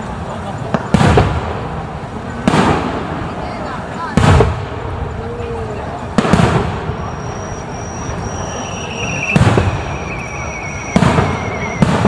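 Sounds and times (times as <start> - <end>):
fireworks booming: 0.7 - 3.4, 4.2 - 5.2, 6.0 - 12.0.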